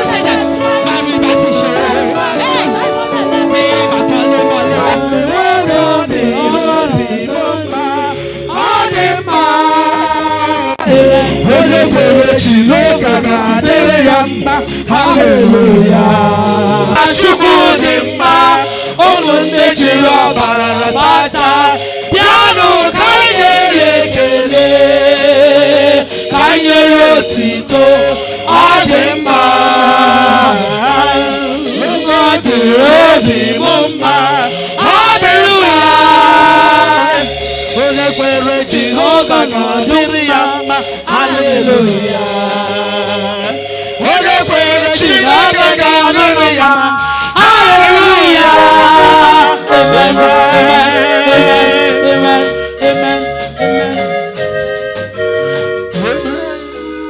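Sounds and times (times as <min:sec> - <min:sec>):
voices singing worship song: 0:00.0 - 0:56.9
music: 0:00.0 - 0:57.0.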